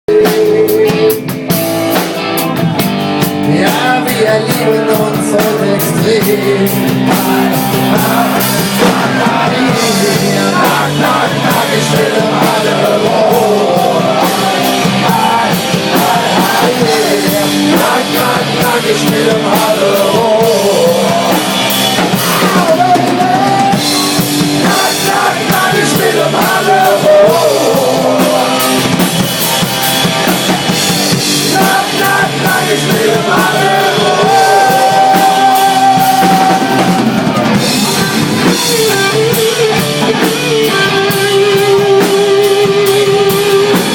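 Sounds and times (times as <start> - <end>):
drum kit beat: 0.1 - 43.9
rock band playing live: 0.1 - 43.9.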